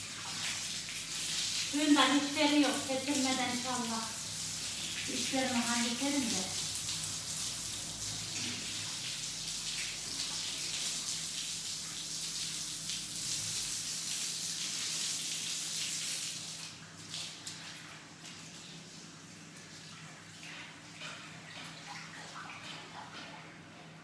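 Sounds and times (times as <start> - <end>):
water from hose onto floor: 0.0 - 24.0.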